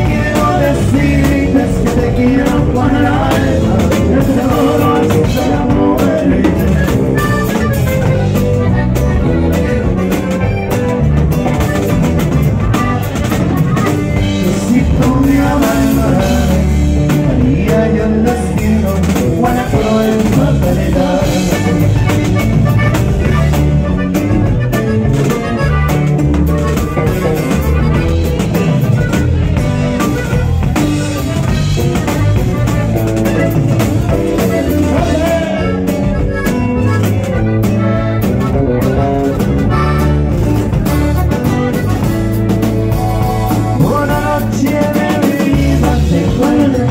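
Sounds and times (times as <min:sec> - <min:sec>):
button accordion playing lead: 0:00.0 - 0:46.9
drum kit: 0:00.0 - 0:46.9.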